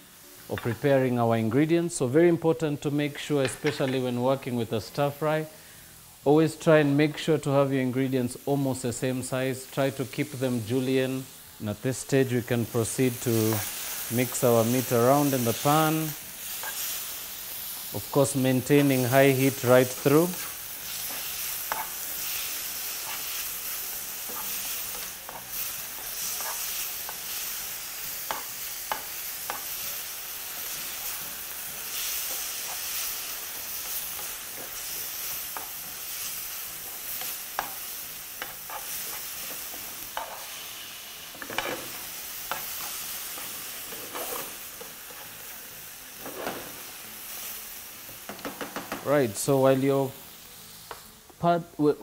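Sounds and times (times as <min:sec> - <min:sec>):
meat sizzling in a frying pan: 0:00.0 - 0:01.7, 0:02.3 - 0:51.4.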